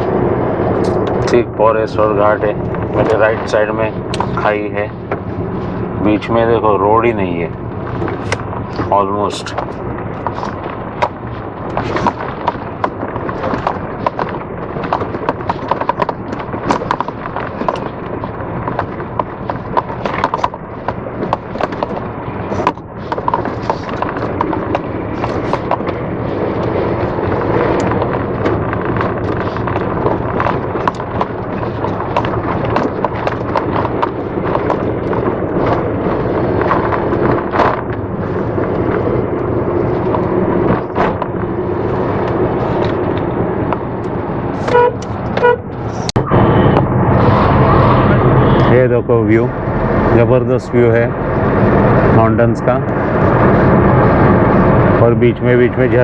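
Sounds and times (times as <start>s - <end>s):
vehicle engine and tyres rumbling: 0.0s - 56.0s.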